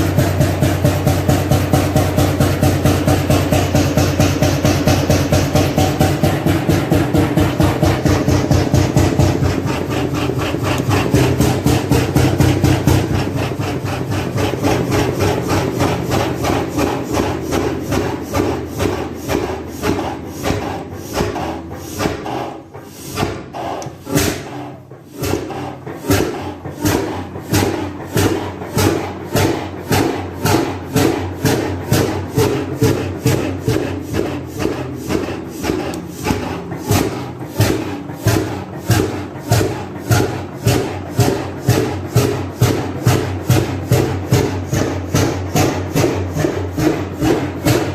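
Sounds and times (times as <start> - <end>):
oil engine firing beat: 0.0 - 47.9.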